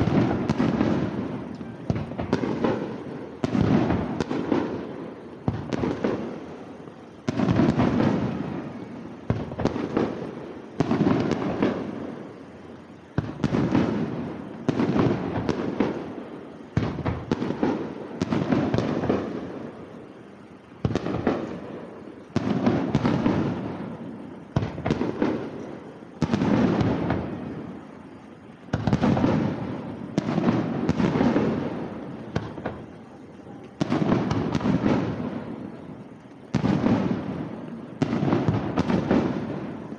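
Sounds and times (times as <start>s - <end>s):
fireworks bursting with echo: 0.0s - 39.9s.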